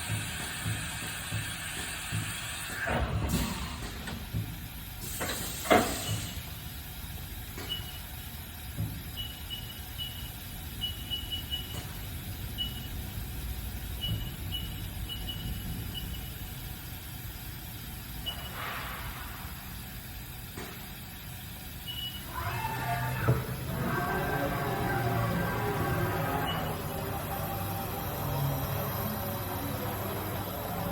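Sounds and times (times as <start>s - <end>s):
machine mechanical hum: 0.0s - 30.9s.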